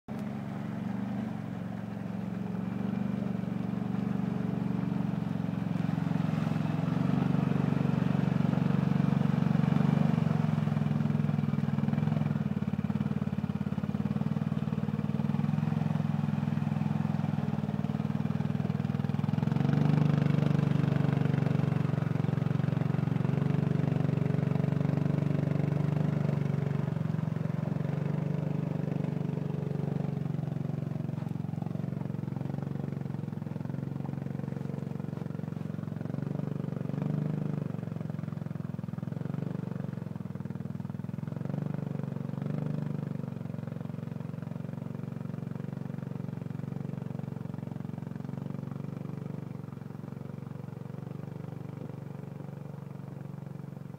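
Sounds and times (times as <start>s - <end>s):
atv engine revving under load: 0.5s - 44.7s.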